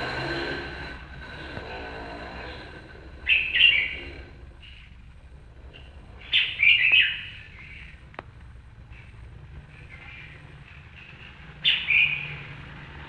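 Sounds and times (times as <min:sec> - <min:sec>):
bird chirping: 0:01.4 - 0:13.0.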